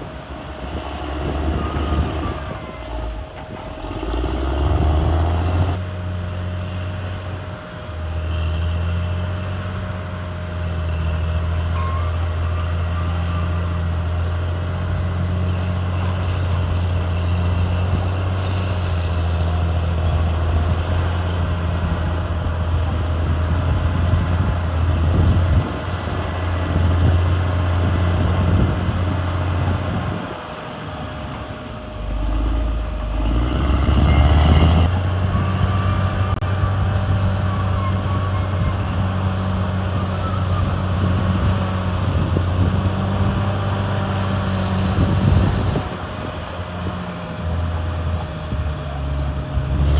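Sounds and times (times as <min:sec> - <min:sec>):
bulldozer diesel engine droning: 0:00.0 - 0:49.9.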